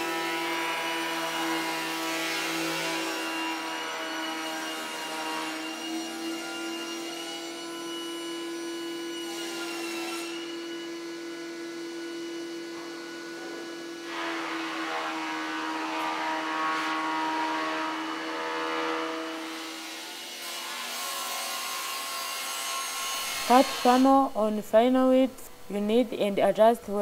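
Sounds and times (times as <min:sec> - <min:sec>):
planer cutting wood: 0:00.0 - 0:24.0.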